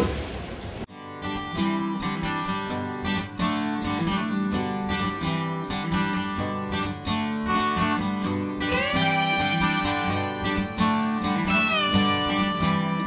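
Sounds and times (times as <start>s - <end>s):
strummed acoustic guitar: 0.9s - 13.0s.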